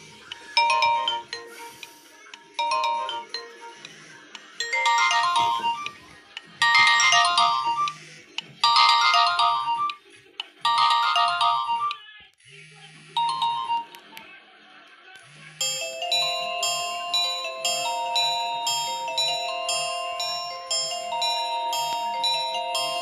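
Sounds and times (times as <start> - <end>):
phone ringtone melody: 0.0 - 8.0, 8.6 - 10.0, 10.6 - 12.0, 13.2 - 14.0, 15.6 - 23.0.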